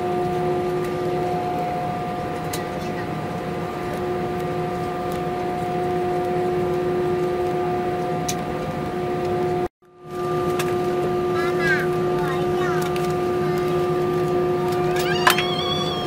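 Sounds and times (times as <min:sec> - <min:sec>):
cabin air noise: 0:00.0 - 0:16.0
jet engines whining at idle: 0:00.0 - 0:16.0.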